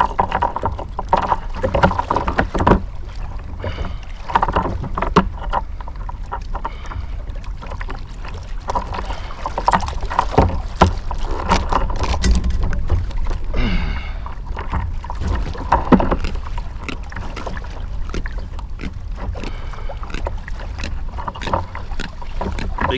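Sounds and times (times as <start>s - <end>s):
water splashing against kayak: 0.0s - 22.9s.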